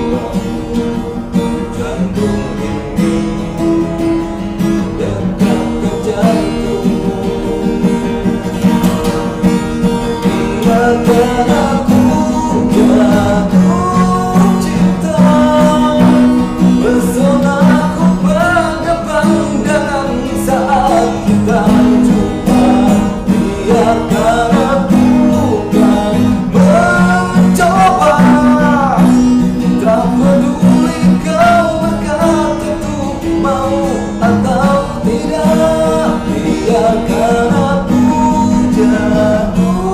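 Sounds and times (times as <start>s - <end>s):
man singing: 0.0s - 39.9s
strummed acoustic guitar: 0.0s - 39.9s.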